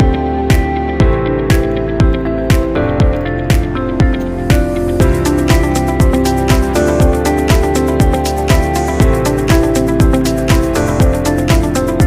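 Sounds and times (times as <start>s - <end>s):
deep kick drum beat: 0.0s - 12.0s
sustained synth chords: 0.0s - 12.0s.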